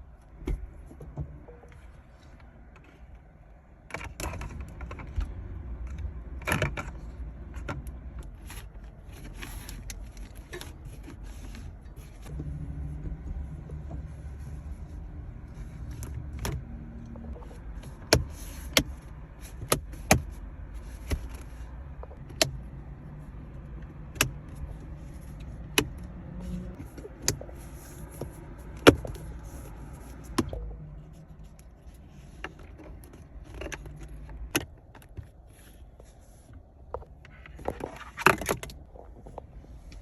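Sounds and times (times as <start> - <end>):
car engine rumble: 0.0 - 40.0.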